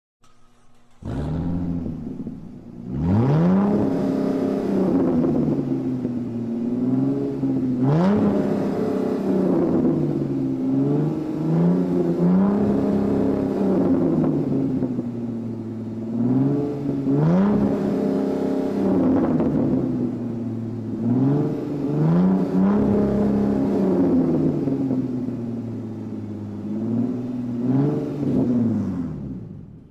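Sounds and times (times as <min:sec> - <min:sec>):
sports car engine revving: 0:00.2 - 0:29.9.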